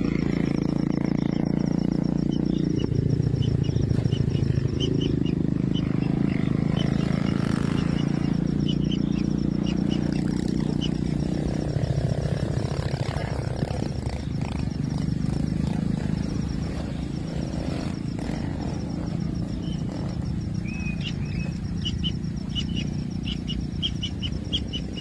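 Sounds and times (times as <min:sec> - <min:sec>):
nestlings churring drone: 0:00.0 - 0:25.0.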